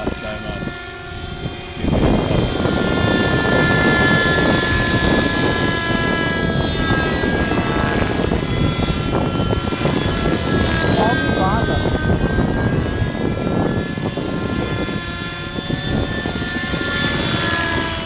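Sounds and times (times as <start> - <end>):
model helicopter engine whine: 0.0 - 18.0.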